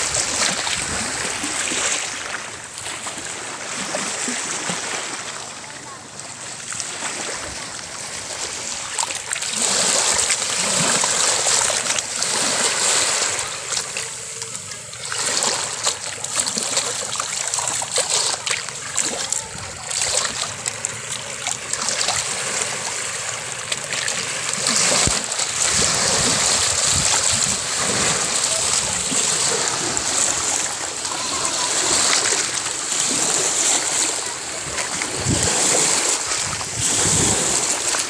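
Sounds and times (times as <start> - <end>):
seawater lapping over rocks: 0.0 - 38.0
small water splashes: 0.0 - 38.0.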